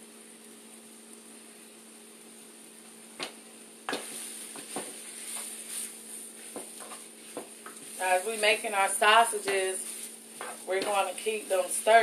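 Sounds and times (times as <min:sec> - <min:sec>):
steady electrical hum: 0:00.0 - 0:12.0
sausage sizzling in a skillet: 0:00.2 - 0:12.0.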